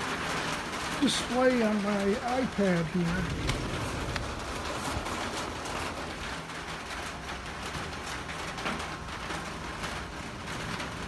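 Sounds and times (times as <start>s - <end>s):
rain on a tin roof: 0.0s - 11.0s.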